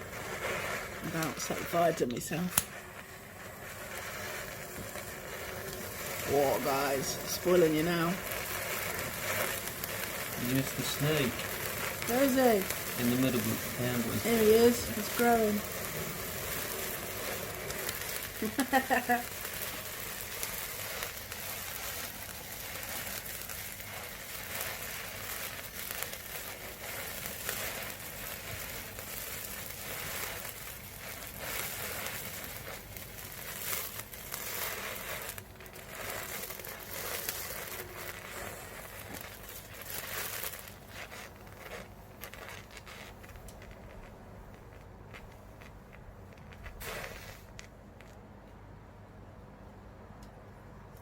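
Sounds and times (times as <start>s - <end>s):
fireworks fizzing and crackling: 0.0s - 48.6s.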